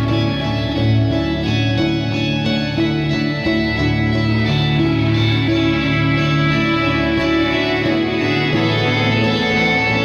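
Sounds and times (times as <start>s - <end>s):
instrumental guitar music: 0.0s - 10.0s.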